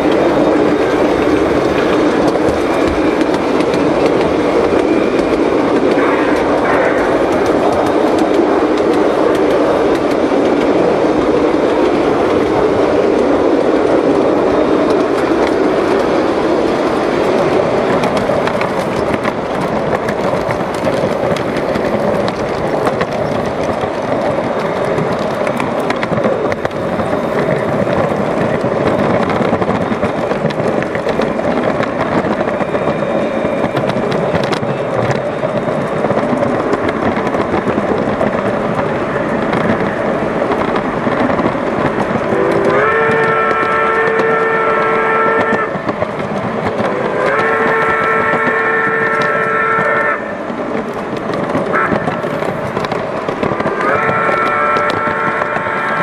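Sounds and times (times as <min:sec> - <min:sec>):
model train rolling on track: 0:00.0 - 0:56.0.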